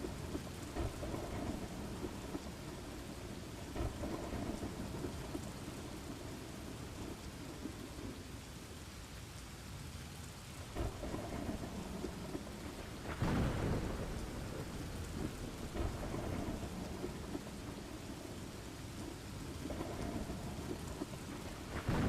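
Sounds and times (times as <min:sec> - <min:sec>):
rolling thunder: 0:00.0 - 0:08.1, 0:10.7 - 0:22.0
steady rain: 0:00.0 - 0:22.0.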